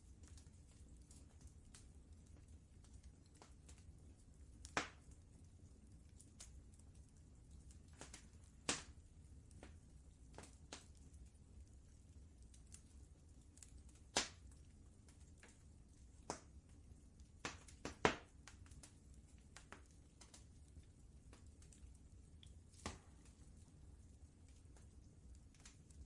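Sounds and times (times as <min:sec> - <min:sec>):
faint low rumble: 0:00.0 - 0:26.0
wood fire crackling and popping: 0:00.0 - 0:26.0.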